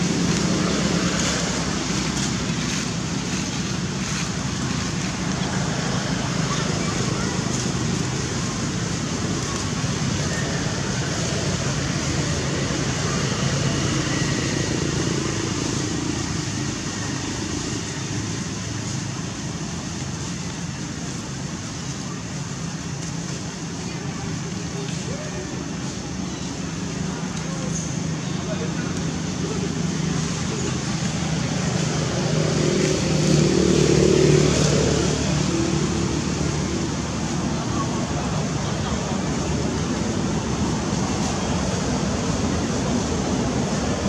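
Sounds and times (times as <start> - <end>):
vehicle engine rumble: 0.0 - 44.0.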